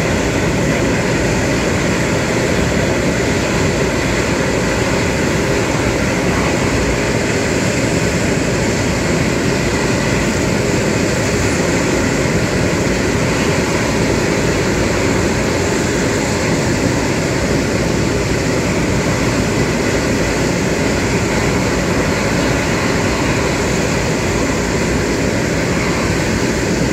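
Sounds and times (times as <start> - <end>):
jet engines rumbling and whining: 0.0 - 26.9.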